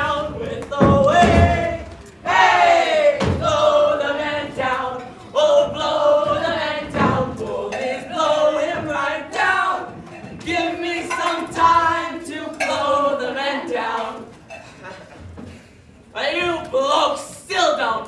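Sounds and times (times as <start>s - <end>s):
chorus singing: 0.0s - 15.0s.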